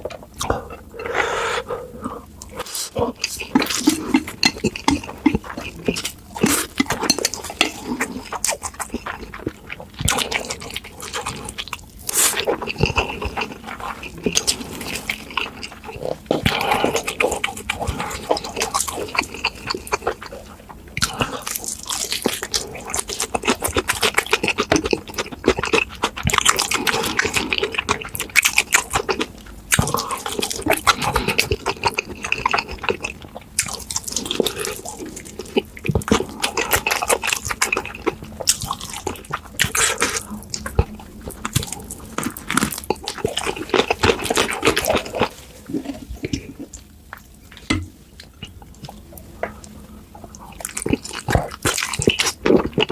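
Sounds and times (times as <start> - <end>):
noodles slurped and chewed: 2.4 - 52.9.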